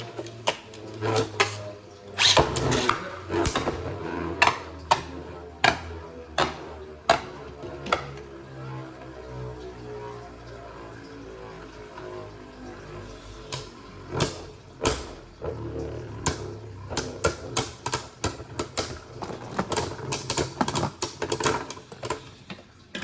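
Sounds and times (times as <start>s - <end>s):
spinning tops whirring: 0.0s - 21.9s.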